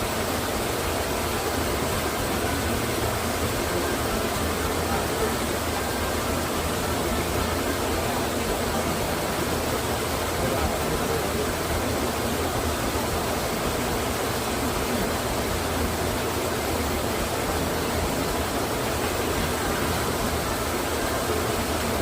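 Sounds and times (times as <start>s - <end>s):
waterfall roar: 0.0s - 22.0s.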